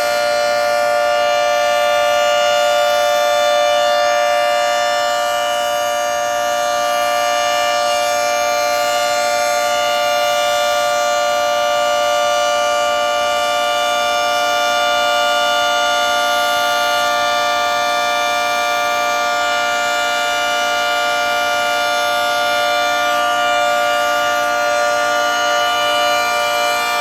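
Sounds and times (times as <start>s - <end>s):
warning siren steady tone: 0.0s - 27.0s.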